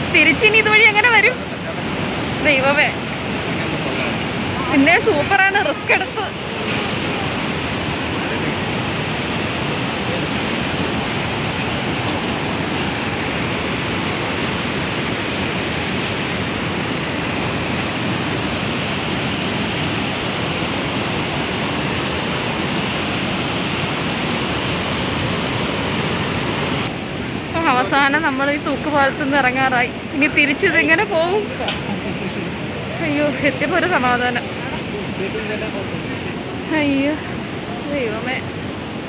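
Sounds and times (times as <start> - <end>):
river rushing over weir: 0.0 - 39.0.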